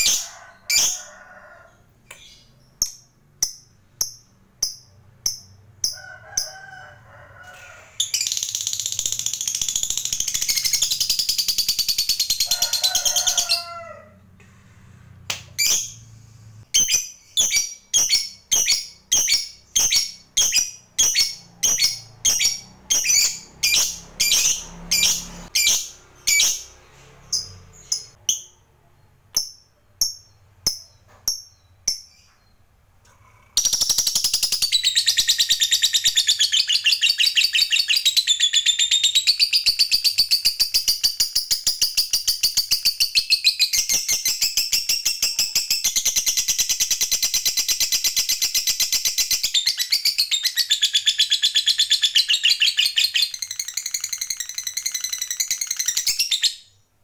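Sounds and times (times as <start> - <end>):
lovebird chirping: 2.0 - 6.0, 7.9 - 13.8, 16.7 - 56.8.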